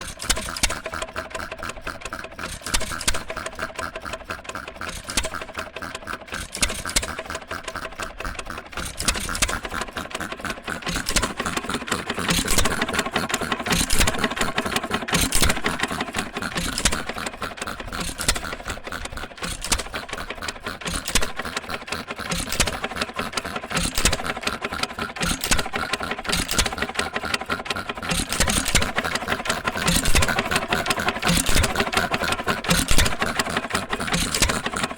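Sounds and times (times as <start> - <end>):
old engine clattering: 0.0 - 34.9.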